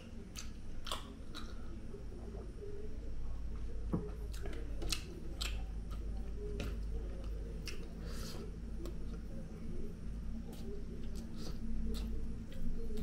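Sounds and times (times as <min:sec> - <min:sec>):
person chewing food: 0:00.0 - 0:02.5, 0:04.1 - 0:09.4, 0:10.4 - 0:13.0
steady low hum: 0:00.0 - 0:13.0.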